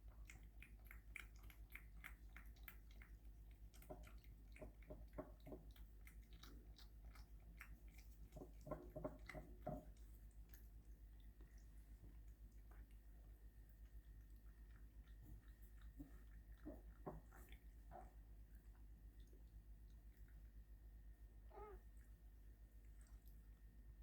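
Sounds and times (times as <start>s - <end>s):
cat licking and chewing: 0.0s - 24.0s.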